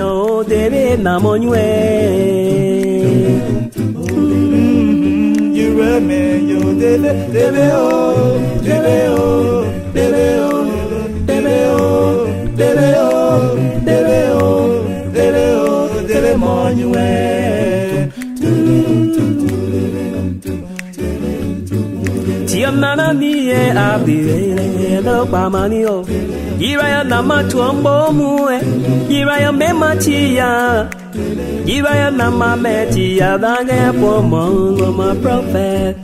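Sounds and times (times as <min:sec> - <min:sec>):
voices singing in harmony: 0:00.0 - 0:36.0.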